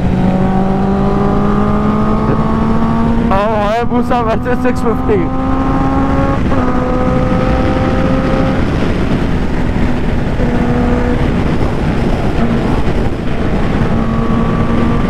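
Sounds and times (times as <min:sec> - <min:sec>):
motorcycle engine cruising: 0:00.0 - 0:15.0
wind rush on microphone: 0:00.0 - 0:15.0.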